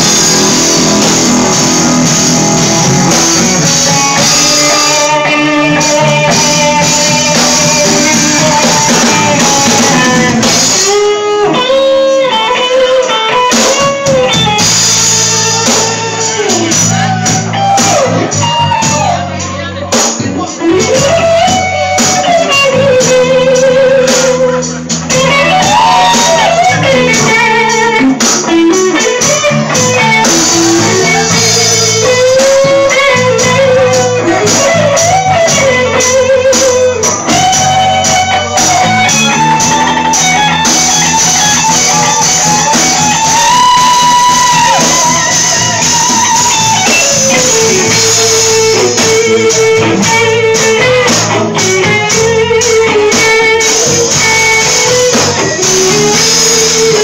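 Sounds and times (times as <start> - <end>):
bass line: 0.0 - 57.0
lead electric guitar bending notes: 0.0 - 57.0.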